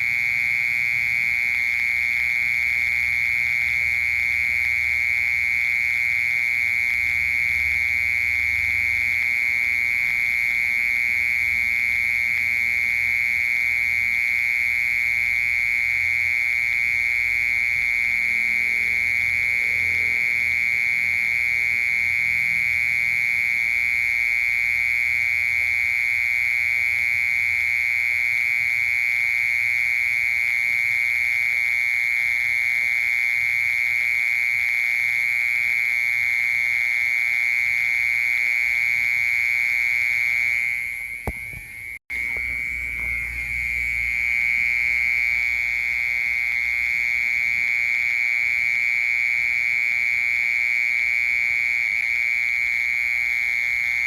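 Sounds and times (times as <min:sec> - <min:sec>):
cricket trilling: 0:00.0 - 0:54.0.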